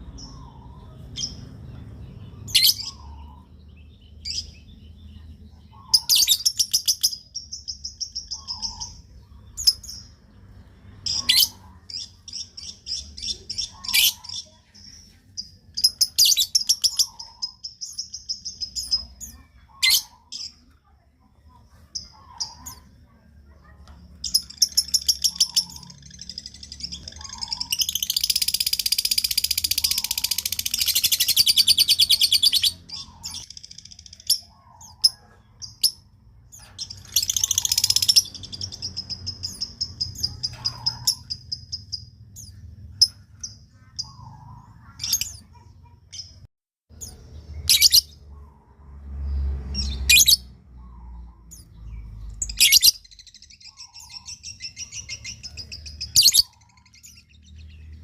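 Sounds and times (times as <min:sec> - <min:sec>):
lovebird chirps and trills: 0:00.0 - 0:48.2, 0:49.1 - 0:58.0.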